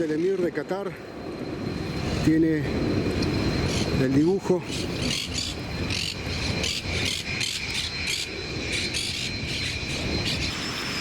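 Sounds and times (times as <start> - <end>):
jet engine rushing noise: 0.0 - 11.0
jet engine whine: 0.0 - 11.0.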